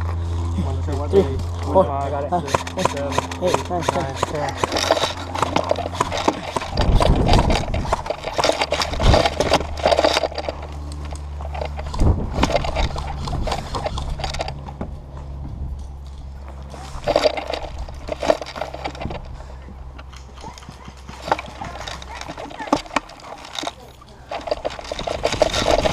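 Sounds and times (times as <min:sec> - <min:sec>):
footsteps on dry dirt: 0:00.0 - 0:25.9
steady low rumble: 0:00.0 - 0:25.9
gear and rifle rattling: 0:02.4 - 0:25.9.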